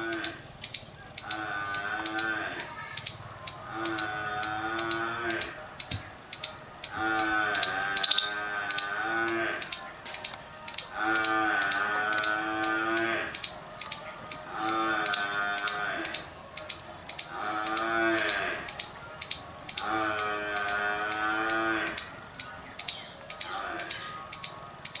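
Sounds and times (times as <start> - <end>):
squirrel sharp alarm chirps: 0.0 - 25.0
squirrel wavering call: 0.0 - 25.0.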